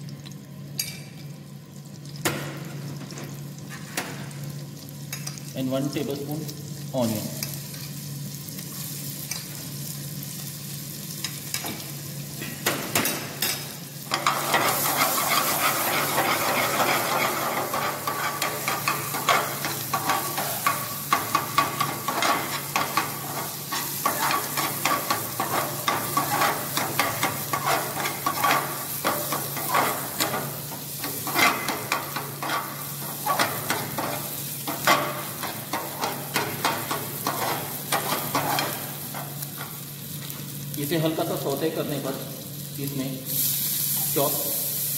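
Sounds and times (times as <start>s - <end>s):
vegetables sizzling in hot oil: 1.4s - 44.9s.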